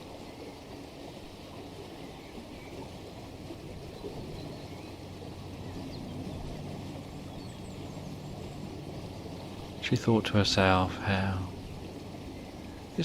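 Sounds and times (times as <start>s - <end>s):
stream running: 0.0s - 13.0s.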